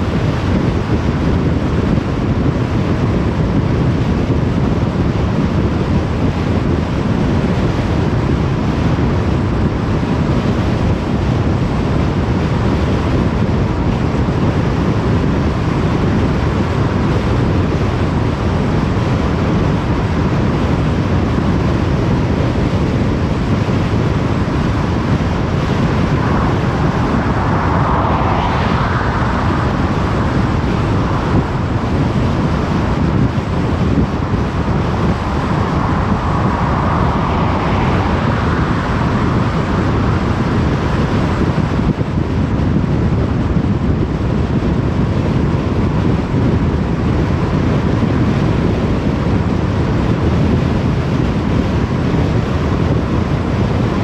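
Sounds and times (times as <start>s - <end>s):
car road noise on motorway: 0.0s - 54.0s.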